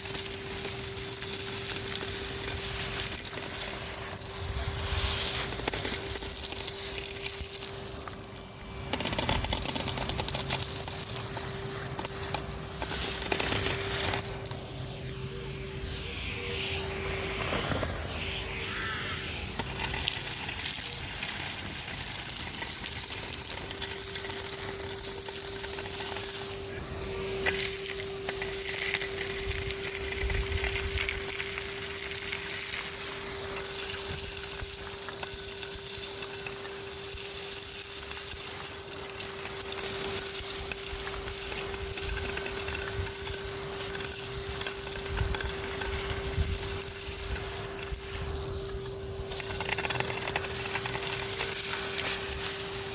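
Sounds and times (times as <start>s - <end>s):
vacuum cleaner whining: 0.0s - 52.9s.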